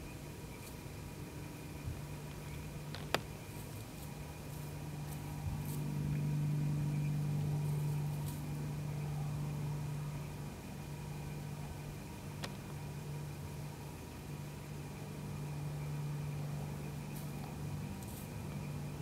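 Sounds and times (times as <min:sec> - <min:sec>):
car engine running: 0:02.6 - 0:19.0.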